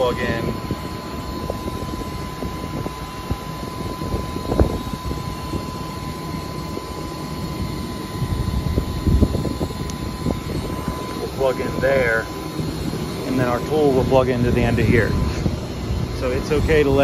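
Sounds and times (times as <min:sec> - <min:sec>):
air conditioning unit drone: 0:00.0 - 0:17.0
thin steady whine: 0:00.0 - 0:17.0.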